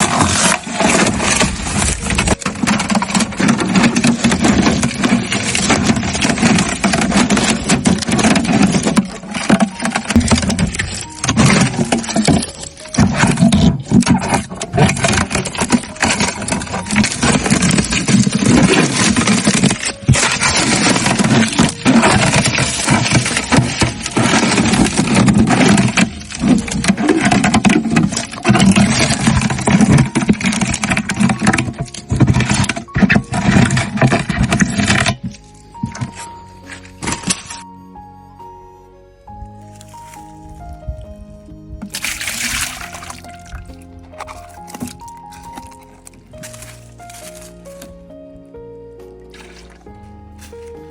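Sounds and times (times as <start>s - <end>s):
rapid scraping and clicking: 0.0s - 37.6s, 41.8s - 47.9s.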